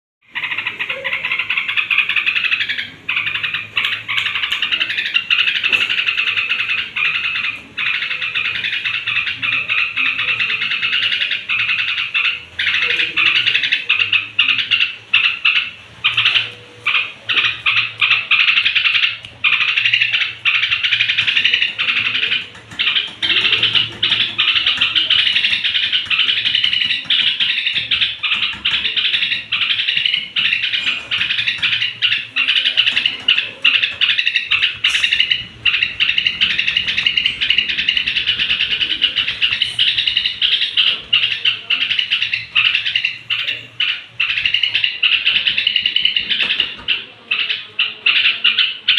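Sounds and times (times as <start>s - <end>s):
bird chattering: 0.3s - 48.9s.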